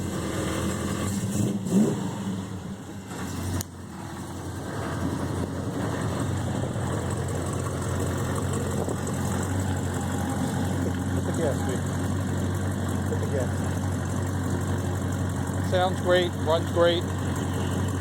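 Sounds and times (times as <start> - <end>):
vee eight engine running: 2.4 - 18.0.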